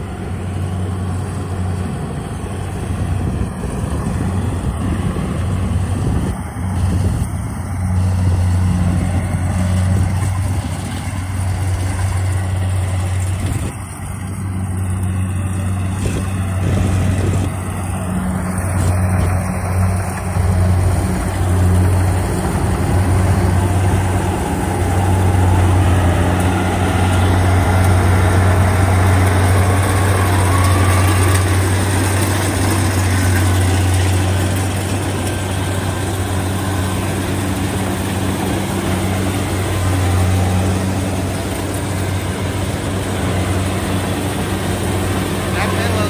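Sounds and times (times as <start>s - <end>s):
combine harvester diesel engine drone: 0.0s - 46.0s
machinery working: 0.0s - 46.0s.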